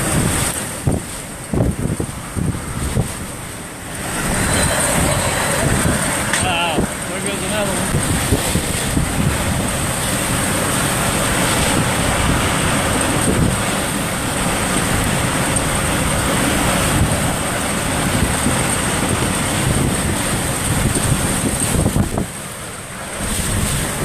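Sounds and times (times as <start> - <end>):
hurricane wind rushing: 0.0 - 24.0.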